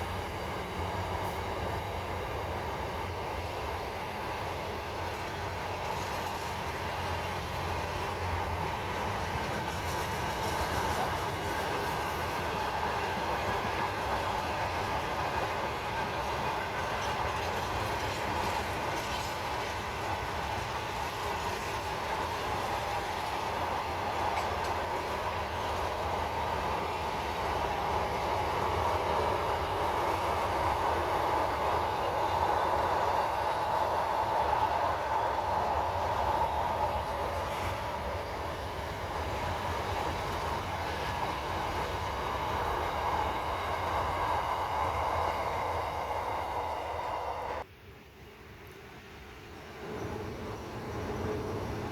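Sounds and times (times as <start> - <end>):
train clatter: 0.0 - 47.7, 49.5 - 51.9
train wheels rumbling on rail: 0.0 - 51.9.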